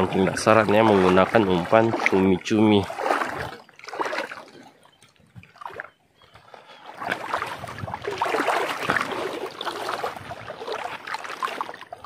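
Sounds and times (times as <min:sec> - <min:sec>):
sea water sloshing around legs: 0:00.0 - 0:12.0.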